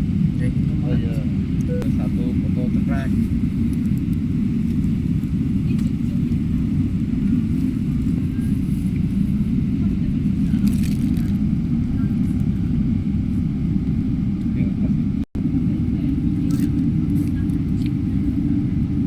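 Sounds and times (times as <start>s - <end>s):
airplane rumble: 0.0s - 19.0s.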